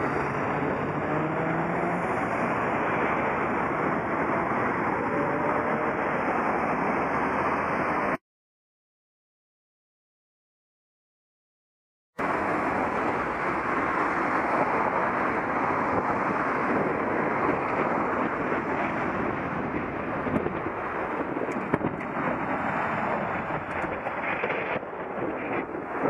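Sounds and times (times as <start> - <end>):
road traffic noise: 0.0 - 8.2, 12.2 - 26.0
wind buffeting microphone: 0.0 - 8.2, 12.2 - 26.0.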